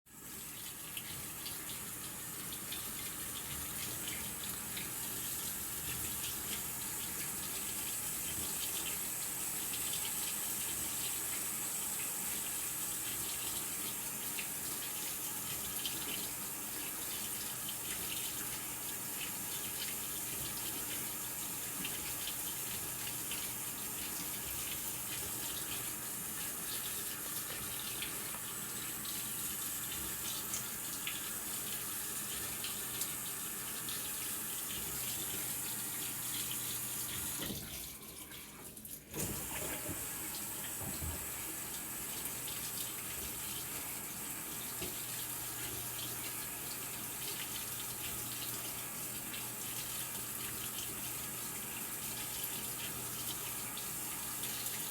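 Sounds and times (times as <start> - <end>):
water running into washing machine: 0.1 - 54.9.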